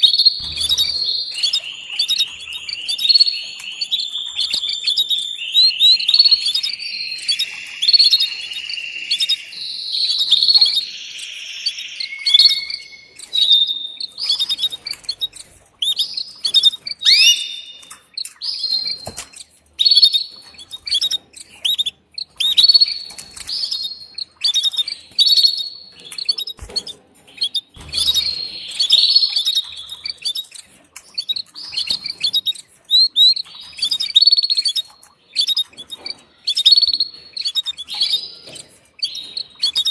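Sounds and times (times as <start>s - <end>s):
canary chirping: 0.0s - 39.9s.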